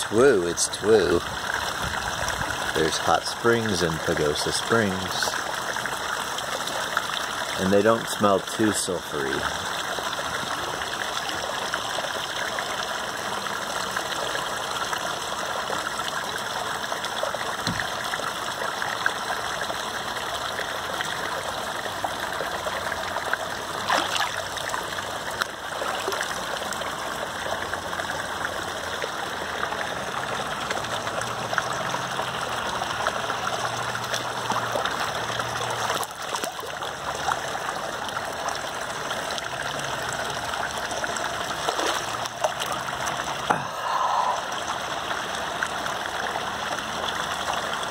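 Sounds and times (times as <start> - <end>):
water flowing into a pool: 0.0 - 47.9.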